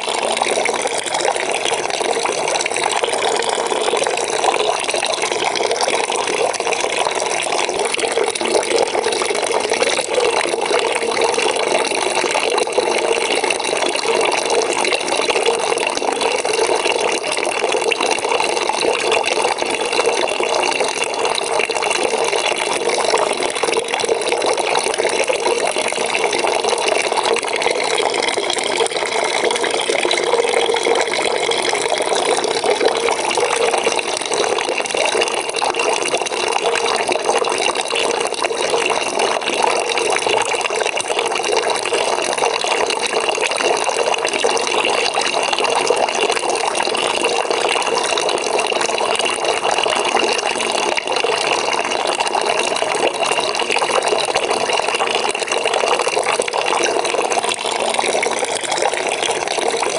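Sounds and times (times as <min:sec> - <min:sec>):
tap water running into a bucket: 0:00.0 - 0:59.9.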